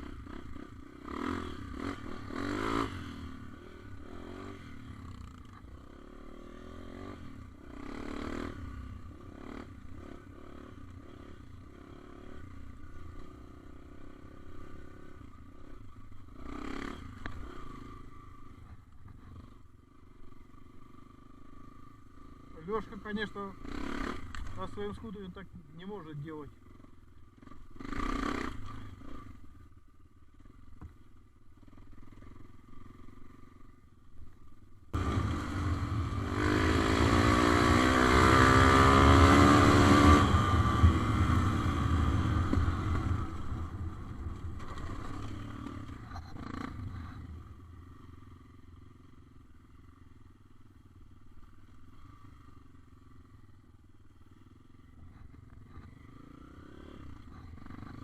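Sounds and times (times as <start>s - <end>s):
motorcycle engine revving: 0.0s - 33.9s, 34.9s - 50.9s, 51.5s - 58.0s.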